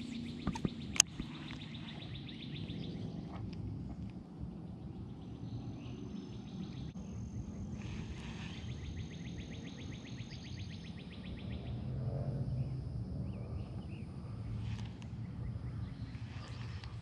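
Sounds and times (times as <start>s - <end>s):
wind rumble: 0.0s - 17.0s.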